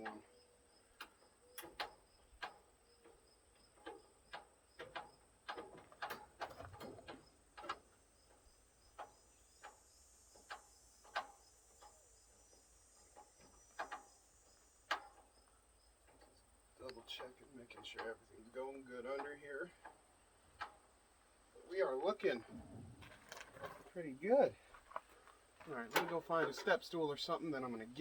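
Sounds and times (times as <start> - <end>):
light clicks and knocks of tools: 0.9 - 21.0, 24.6 - 27.0.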